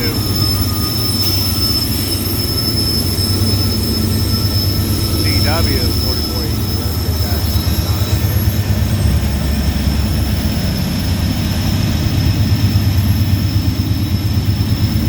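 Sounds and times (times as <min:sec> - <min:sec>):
locomotive engines rumbling: 0:00.0 - 0:15.0.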